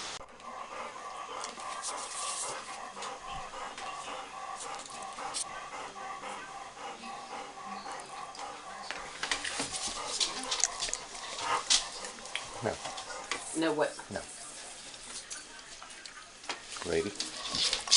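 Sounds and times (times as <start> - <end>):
dogs panting: 0.2 - 17.9.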